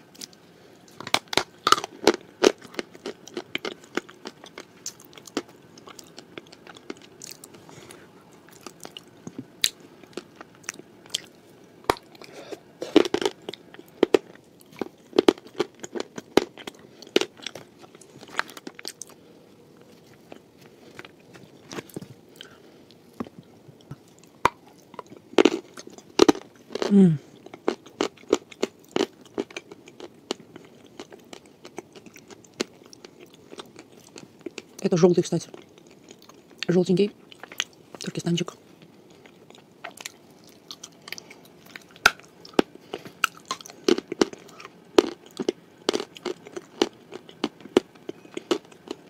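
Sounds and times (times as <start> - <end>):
crunchy cookie biting and chewing: 0.1 - 19.2, 19.8 - 34.8, 38.9 - 49.0.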